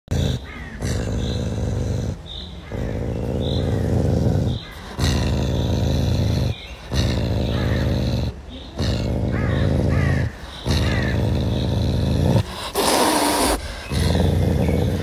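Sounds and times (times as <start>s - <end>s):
wild cat growling: 0.1s - 15.0s.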